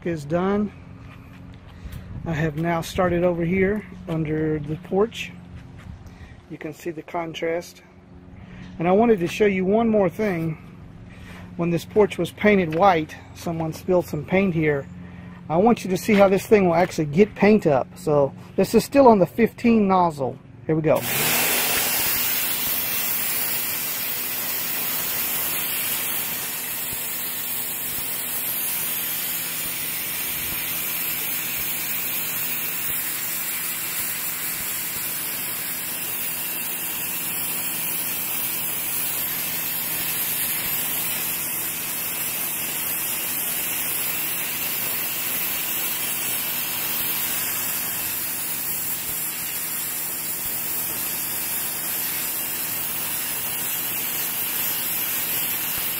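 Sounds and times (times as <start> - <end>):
faint motor hum: 0.0 - 55.9
pressure washer spraying concrete: 2.3 - 5.4, 8.8 - 55.9.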